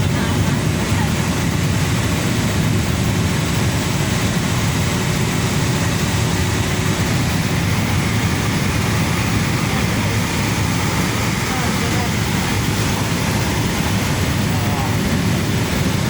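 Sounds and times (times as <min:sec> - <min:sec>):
faint steady whine: 0:00.0 - 0:16.0
turboprop engine drone: 0:00.0 - 0:16.0.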